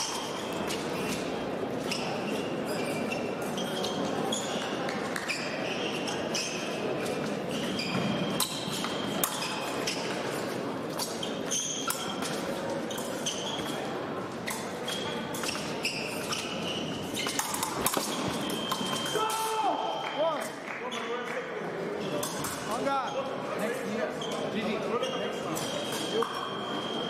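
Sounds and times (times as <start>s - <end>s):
shoe squeaks: 0.0s - 19.4s, 22.0s - 27.0s
murmur of a large hall: 0.0s - 27.0s.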